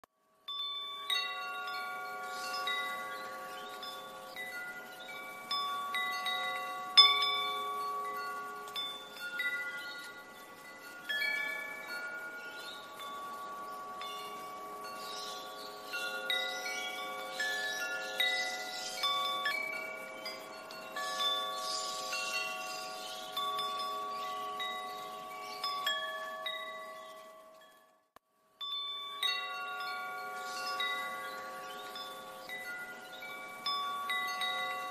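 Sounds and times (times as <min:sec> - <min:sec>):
chimes ringing: 0:00.3 - 0:34.9.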